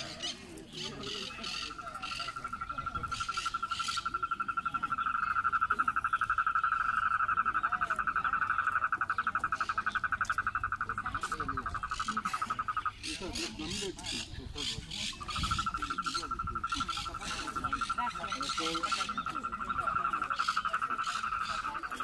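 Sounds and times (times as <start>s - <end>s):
frog trilling: 0.0s - 22.0s.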